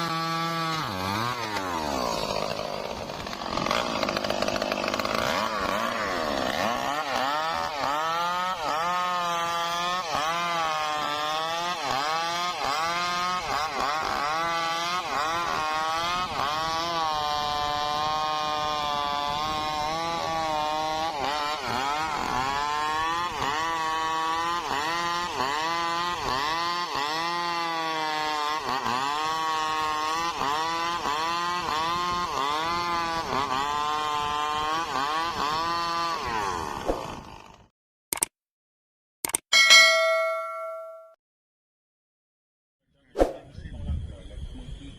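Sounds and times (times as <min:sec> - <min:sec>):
chainsaw cutting through log: 0:00.0 - 0:37.7.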